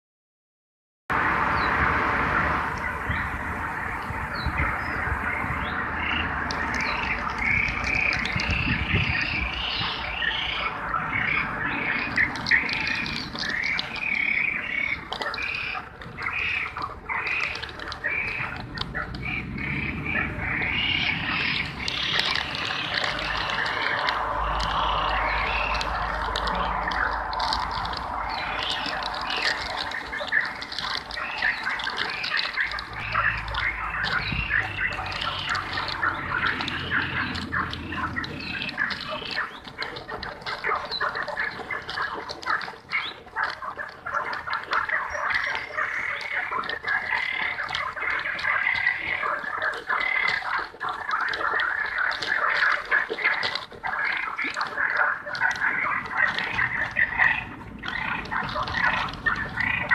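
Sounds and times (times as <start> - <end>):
frogs croaking: 1.1 - 59.9.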